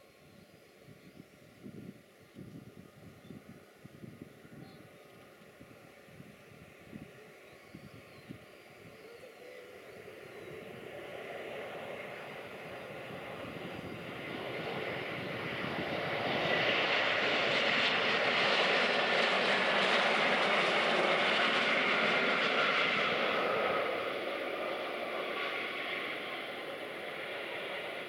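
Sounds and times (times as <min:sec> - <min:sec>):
faint jet whine dropping in pitch: 0:00.0 - 0:28.0
jet engines roaring: 0:03.0 - 0:28.0.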